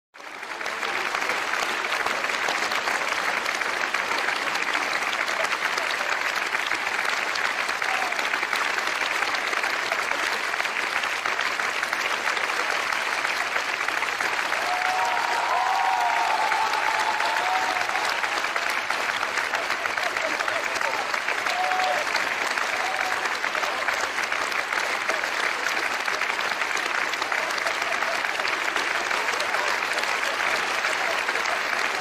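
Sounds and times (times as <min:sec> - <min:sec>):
audience applauding: 0:00.2 - 0:32.0.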